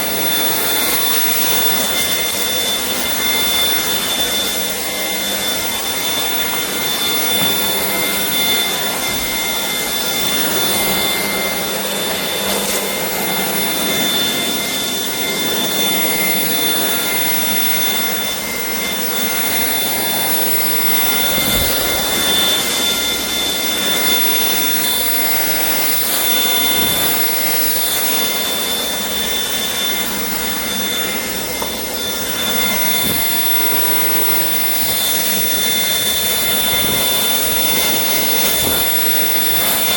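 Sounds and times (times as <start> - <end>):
high-pitched vacuum whine: 0.0 - 39.9
stick vacuum running: 0.0 - 39.9.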